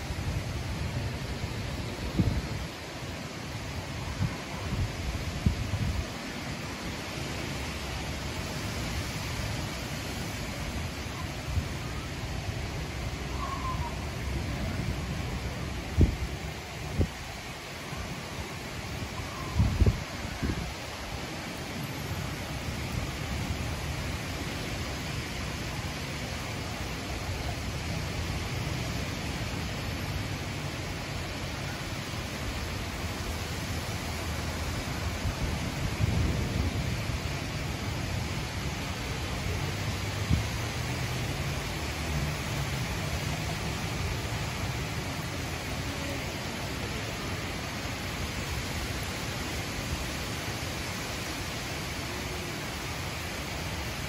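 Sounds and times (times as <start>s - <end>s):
heavy rain: 0.0s - 54.0s
wind: 0.0s - 54.0s.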